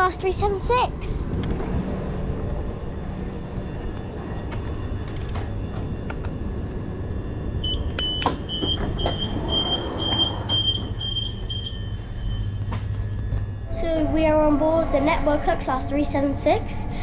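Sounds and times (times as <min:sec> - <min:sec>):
electric train rumble: 0:00.0 - 0:17.0
pulsing door warning tone: 0:01.8 - 0:17.0.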